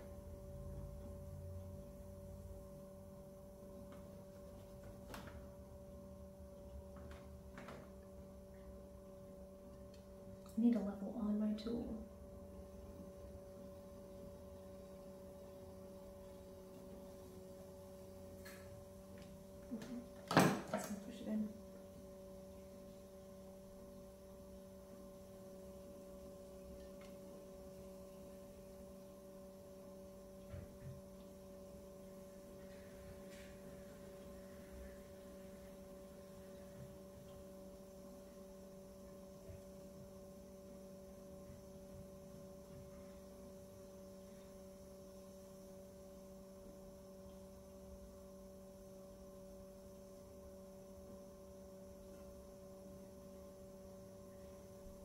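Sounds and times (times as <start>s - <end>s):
pottery wheel humming: 0.0s - 55.0s.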